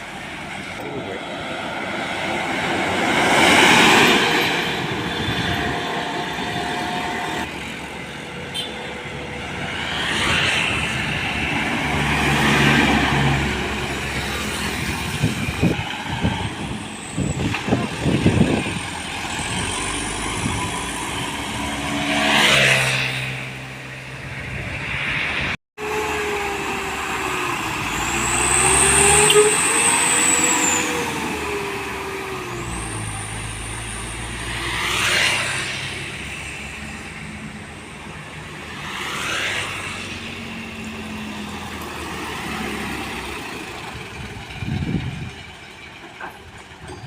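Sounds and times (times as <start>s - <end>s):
diesel engines running: 0.0s - 47.0s
trucks and cars passing: 0.0s - 47.0s.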